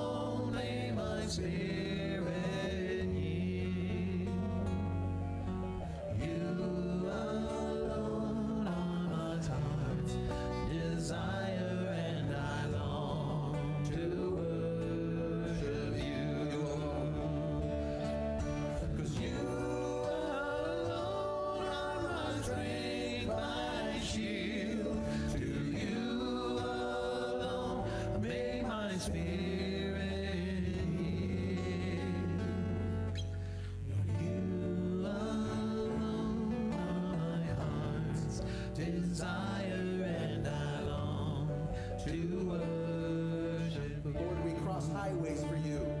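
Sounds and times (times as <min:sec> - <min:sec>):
men singing together: 0:00.0 - 0:05.0, 0:05.8 - 0:46.0
bass guitar: 0:00.0 - 0:46.0
guitars playing: 0:00.0 - 0:46.0.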